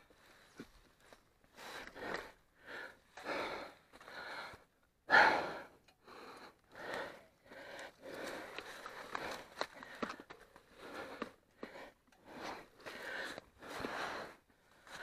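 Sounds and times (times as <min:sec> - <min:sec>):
person breathing hard: 0:01.4 - 0:15.0.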